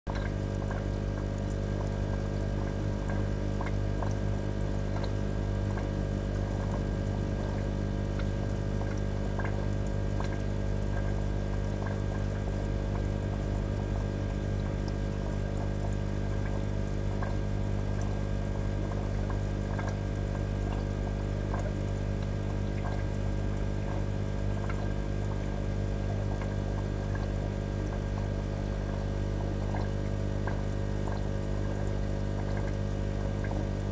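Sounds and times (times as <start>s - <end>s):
low pump hum: 0.1s - 33.9s
small bubbling ticks: 0.1s - 33.9s
water trickling: 0.1s - 33.9s.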